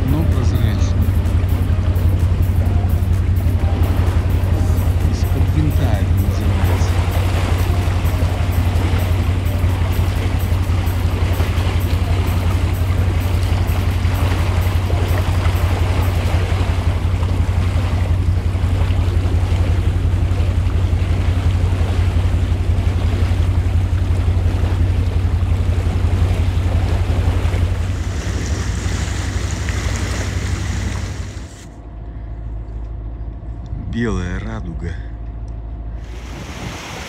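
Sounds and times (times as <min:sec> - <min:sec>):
propeller wash churning: 0:00.0 - 0:31.7, 0:36.0 - 0:37.0
motor boat engine droning: 0:00.0 - 0:37.0.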